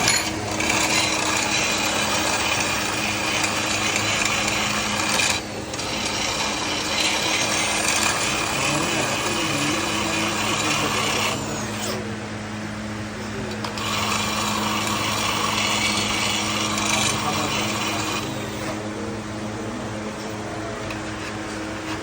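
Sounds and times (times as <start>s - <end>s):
power tool motor hum: 0.0s - 22.0s.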